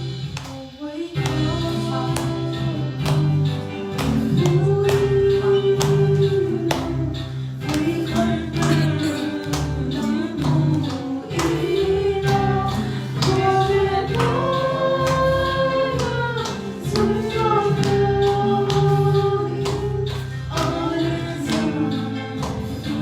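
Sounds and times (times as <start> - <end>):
instrumental accompaniment with beat: 0.0 - 23.0
group singing a gospel hymn: 1.1 - 23.0.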